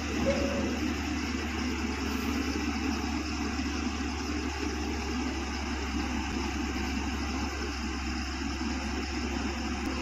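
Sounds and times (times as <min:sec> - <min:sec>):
diesel engines running: 0:00.0 - 0:10.0.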